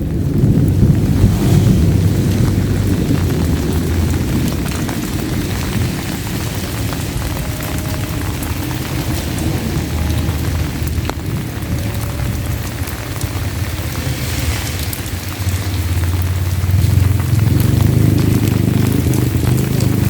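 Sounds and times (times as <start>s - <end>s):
low rumble of thunder: 0.0s - 20.0s
steady rain: 0.0s - 20.0s.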